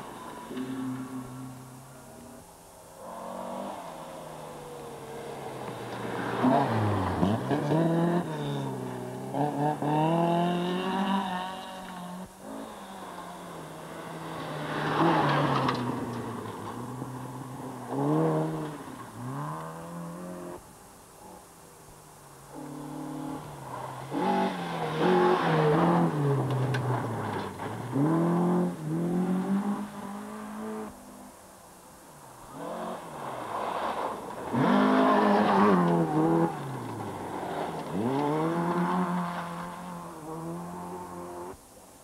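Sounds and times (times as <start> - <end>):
rally car engines revving: 0.0 - 21.5, 22.3 - 31.4, 32.2 - 41.6.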